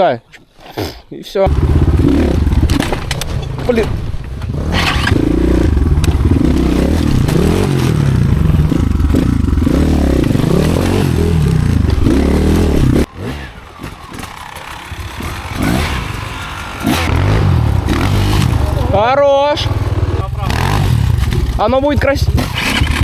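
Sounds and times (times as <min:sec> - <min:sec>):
scraping and clatter: 0:01.5 - 0:13.1, 0:13.7 - 0:18.9, 0:19.6 - 0:23.0
motorcycle engine revving: 0:01.5 - 0:23.0.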